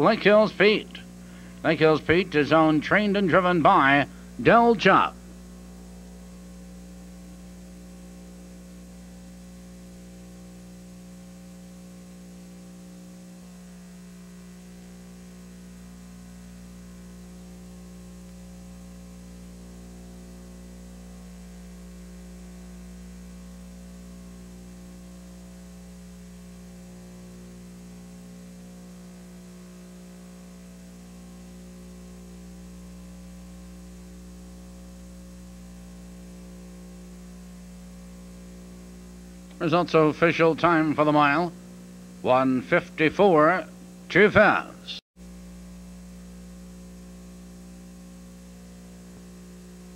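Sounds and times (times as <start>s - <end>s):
electrical mains hum: 0.0s - 49.9s.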